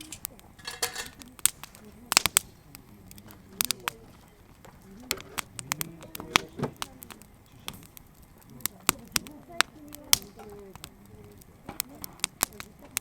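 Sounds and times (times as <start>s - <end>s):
sharp pops from fire: 0.0s - 13.0s
wood campfire crackling: 0.0s - 13.0s.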